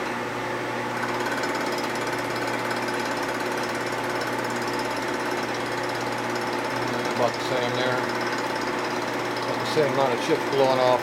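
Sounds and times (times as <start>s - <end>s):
milling machine running: 0.8s - 11.0s.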